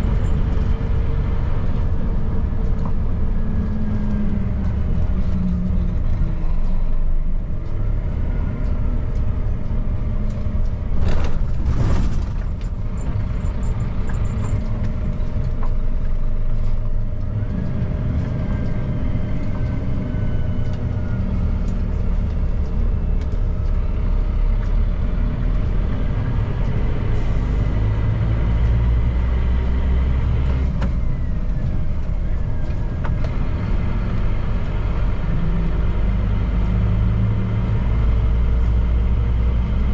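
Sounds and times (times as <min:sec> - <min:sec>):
road and tyre rumble: 0:00.0 - 0:39.9
truck diesel engine running: 0:00.0 - 0:39.9.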